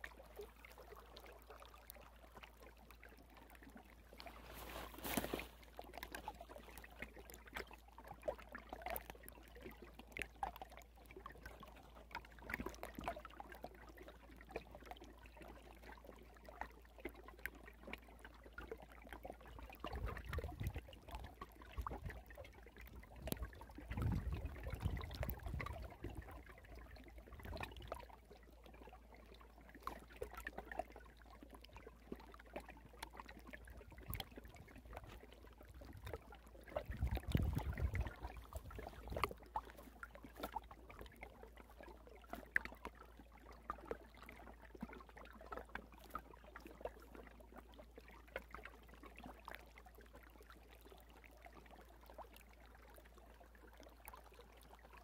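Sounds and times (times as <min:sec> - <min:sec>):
water trickling and lapping: 0:00.0 - 0:55.0.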